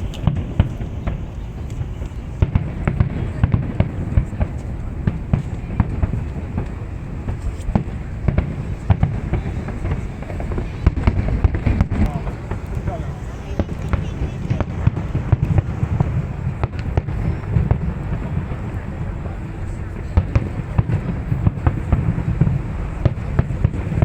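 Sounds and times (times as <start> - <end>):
fireworks bangs and crackles: 0.0 - 24.0
low rumble of bursts: 0.0 - 24.0.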